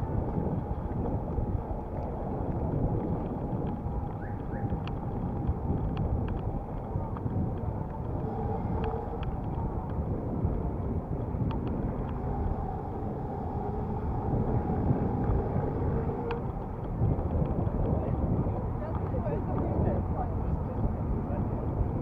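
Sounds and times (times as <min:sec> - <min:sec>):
road rumble: 0:00.0 - 0:22.0
wind buffeting microphone: 0:00.0 - 0:22.0
faint ticks and rattles: 0:00.1 - 0:22.0.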